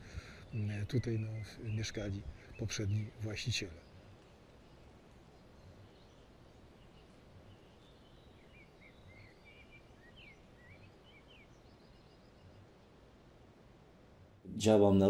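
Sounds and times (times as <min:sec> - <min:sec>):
bird chirping faintly: 0:00.0 - 0:14.4.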